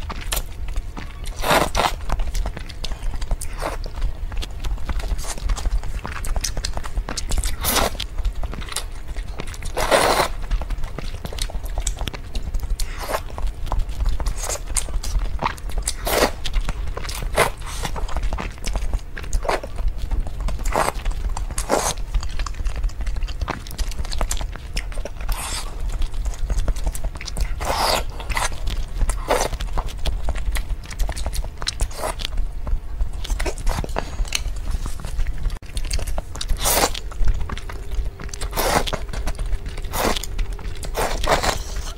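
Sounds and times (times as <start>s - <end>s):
steady low hum: 0.0s - 41.9s
wet chewing and mouth smacks: 0.0s - 41.9s.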